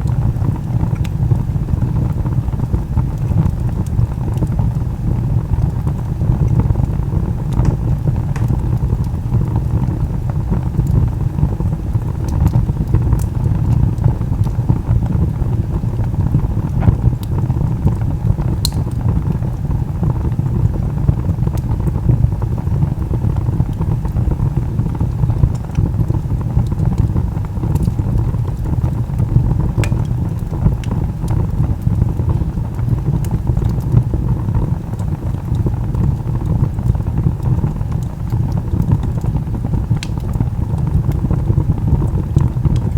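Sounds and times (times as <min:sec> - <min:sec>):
fire crackling and popping: 0:00.0 - 0:42.9
log fire rumbling: 0:00.0 - 0:42.9.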